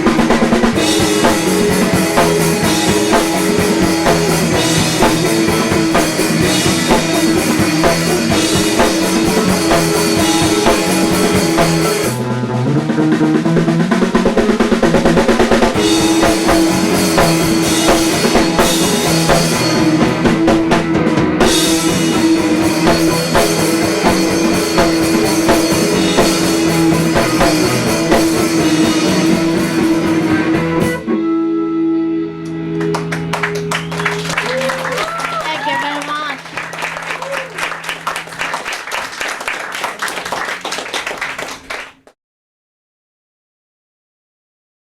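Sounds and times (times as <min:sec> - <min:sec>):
drum kit: 0:00.0 - 0:31.2, 0:32.9 - 0:42.0
electric guitar: 0:00.0 - 0:38.5.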